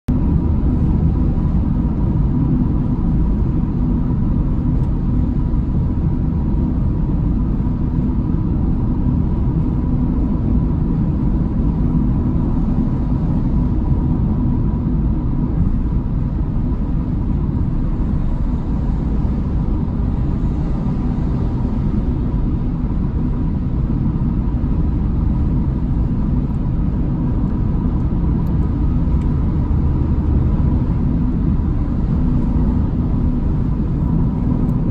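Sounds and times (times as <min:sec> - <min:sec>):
car cabin road rumble: 0:00.1 - 0:34.9.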